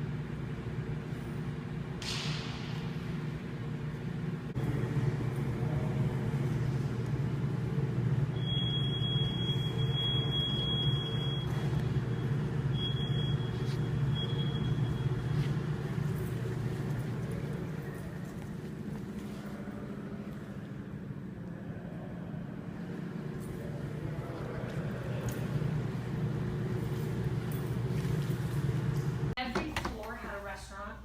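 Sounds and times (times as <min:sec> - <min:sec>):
low mechanical rumble with hum: 0:00.0 - 0:31.0.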